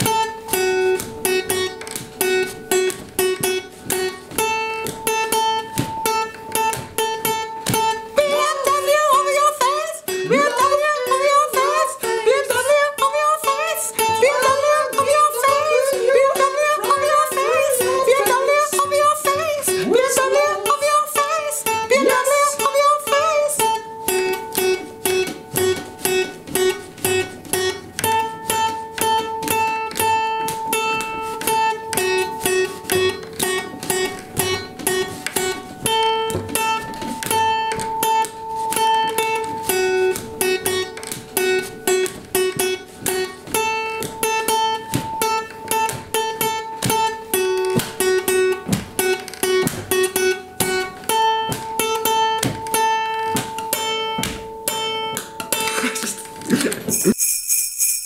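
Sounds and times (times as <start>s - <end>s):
acoustic guitar strumming: 0.0s - 57.3s.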